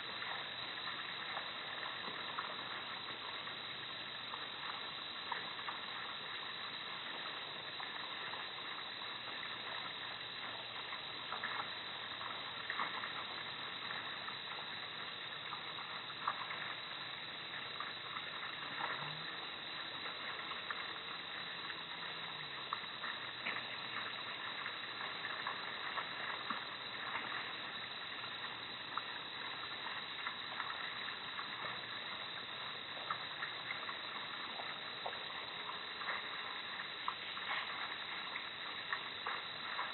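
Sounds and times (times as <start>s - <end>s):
faint ticks and clicks: 0.0s - 39.9s
night ambience hiss: 0.0s - 39.9s.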